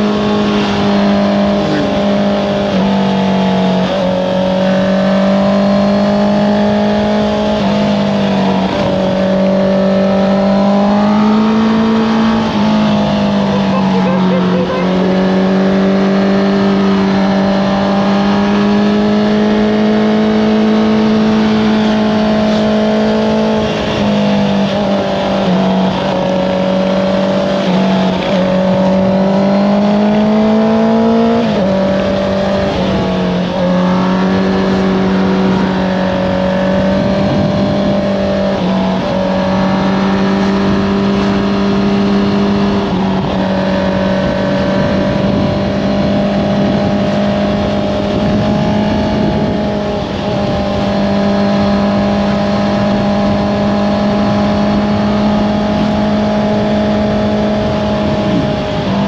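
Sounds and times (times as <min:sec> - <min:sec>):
motorcycle engine running: 0:11.0 - 0:59.0.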